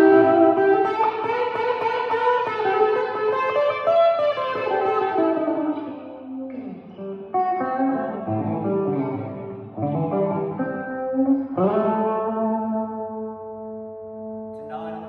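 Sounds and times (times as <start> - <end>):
electric guitar chords and notes: 0.0 - 15.0.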